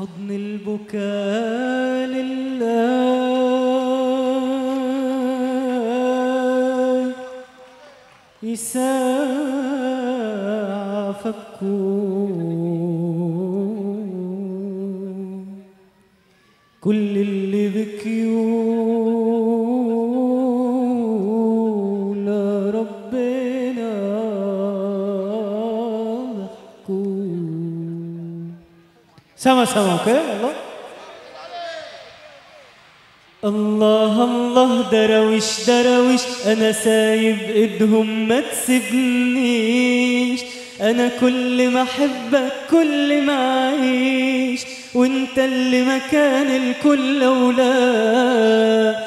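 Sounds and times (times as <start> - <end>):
man singing through a microphone: 0.0 - 15.9, 16.6 - 31.0, 33.4 - 49.0.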